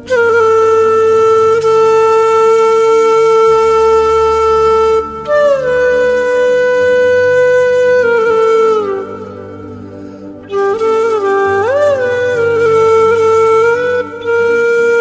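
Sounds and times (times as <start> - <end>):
low steady accompaniment: 0.0 - 15.0
wind instrument long notes: 0.0 - 15.0.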